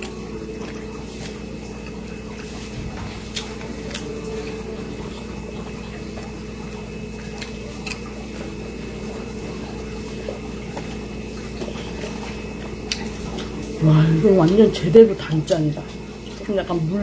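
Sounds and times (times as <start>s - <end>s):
chewing sandwich: 0.0s - 13.8s
low electrical hum: 0.0s - 17.0s.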